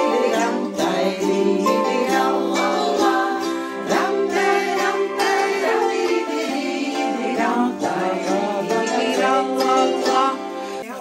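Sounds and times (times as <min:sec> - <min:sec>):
board zither plucked and strummed: 0:00.0 - 0:10.8.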